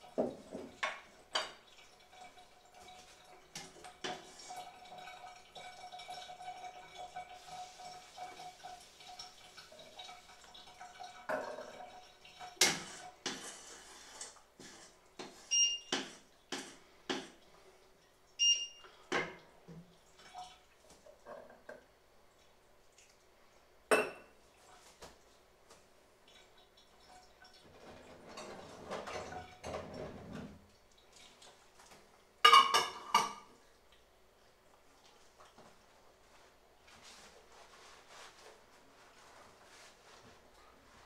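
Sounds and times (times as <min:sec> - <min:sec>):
faint liquid sounds: 0:00.0 - 0:41.0.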